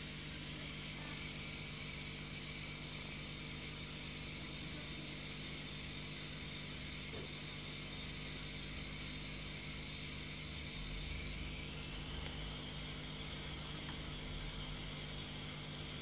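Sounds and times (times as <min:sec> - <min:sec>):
aquarium filter humming: 0:00.0 - 0:16.0.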